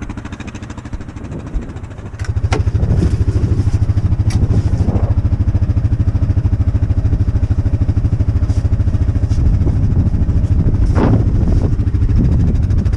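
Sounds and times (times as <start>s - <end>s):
farm vehicle engine pulsing: 0.0s - 12.9s.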